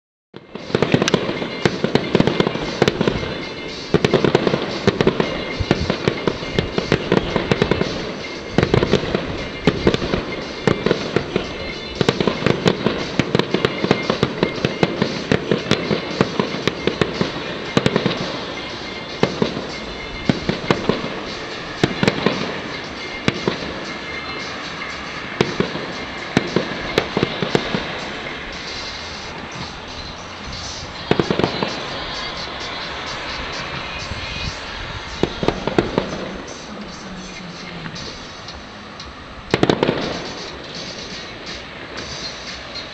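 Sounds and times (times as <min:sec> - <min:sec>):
fireworks bangs and crackles: 0:00.4 - 0:42.9.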